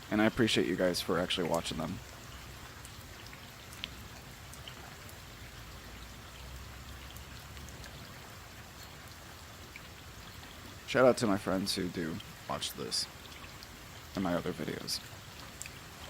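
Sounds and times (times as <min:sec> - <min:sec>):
light rain on pavement: 0:00.0 - 0:16.0.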